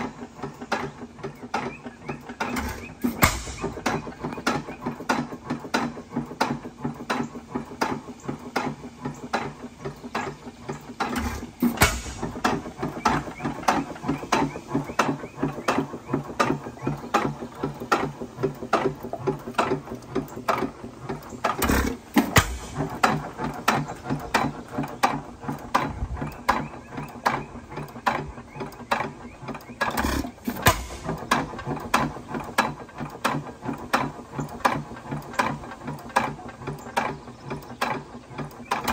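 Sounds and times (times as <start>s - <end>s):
engine firing strokes: 0.0s - 38.9s
engine valve gear clatter: 0.0s - 38.9s.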